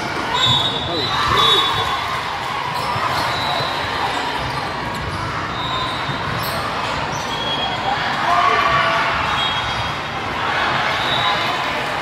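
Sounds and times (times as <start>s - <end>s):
hubbub of players and spectators: 0.0s - 12.0s.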